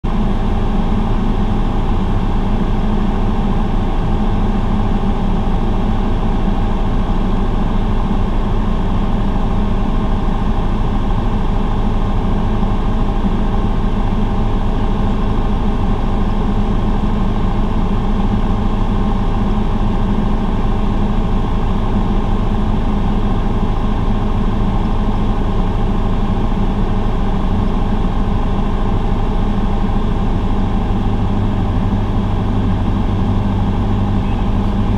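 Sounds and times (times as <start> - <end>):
aircraft engine drone: 0.1 - 34.9.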